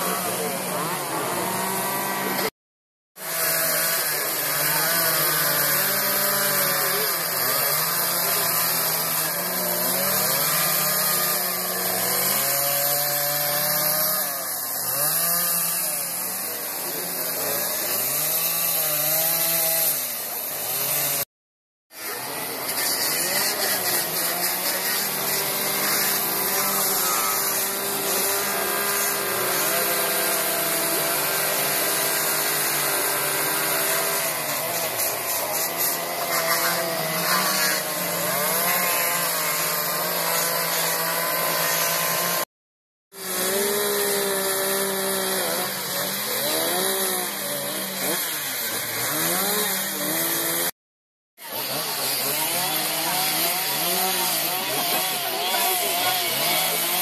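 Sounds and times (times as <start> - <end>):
chainsaws revving: 0.0 - 2.6, 3.2 - 21.3, 21.9 - 42.5, 43.1 - 50.8, 51.4 - 57.0.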